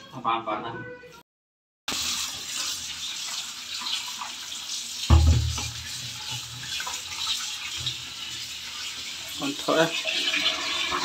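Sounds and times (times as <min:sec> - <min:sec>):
tap water running into bowl: 0:01.9 - 0:11.0.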